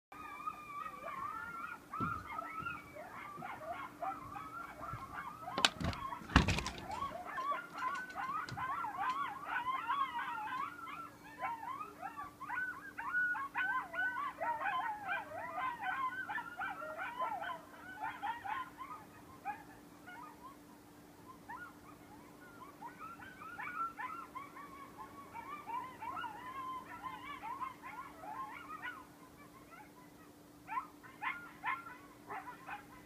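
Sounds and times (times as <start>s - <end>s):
coyotes howling: 0.1s - 33.0s.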